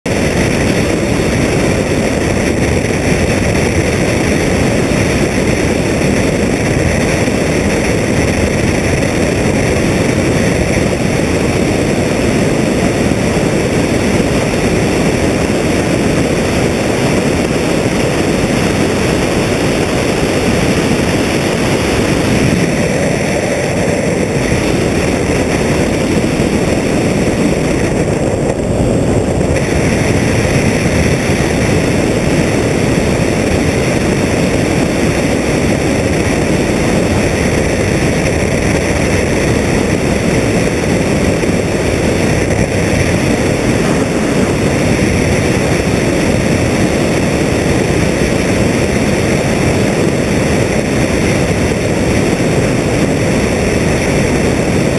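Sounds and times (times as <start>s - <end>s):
airplane engine and propeller drone: 0.0s - 54.9s
wind rushing over microphone: 0.0s - 54.9s.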